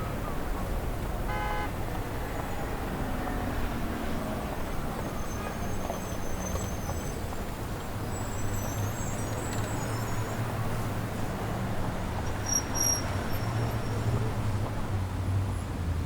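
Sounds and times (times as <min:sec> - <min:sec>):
low rumble of traffic: 0:00.0 - 0:16.0.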